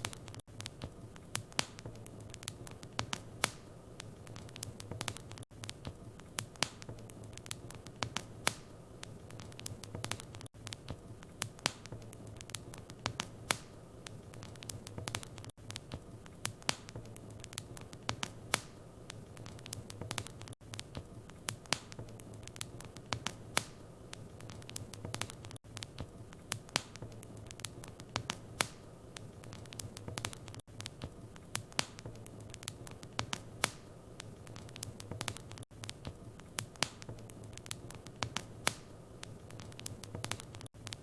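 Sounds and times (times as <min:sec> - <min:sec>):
steady hiss and low hum: 0:00.0 - 0:41.0
wood fire crackling and popping: 0:00.0 - 0:41.0.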